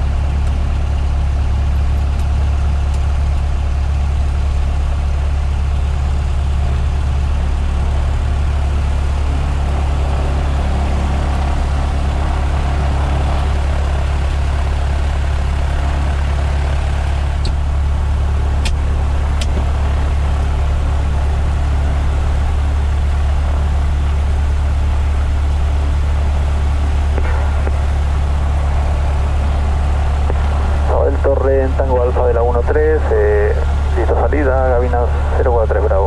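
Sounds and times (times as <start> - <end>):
piston aircraft engine drone: 0.0 - 36.0.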